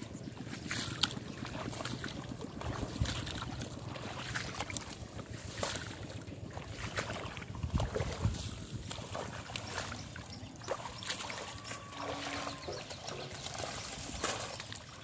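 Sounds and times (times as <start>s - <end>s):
rustling through water plants: 0.0s - 15.0s
water sloshing and splashing: 0.0s - 15.0s.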